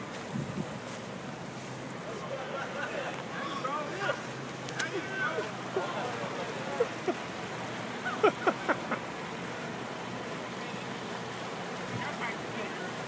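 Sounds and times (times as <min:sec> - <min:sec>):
rain and running floodwater: 0:00.0 - 0:13.0.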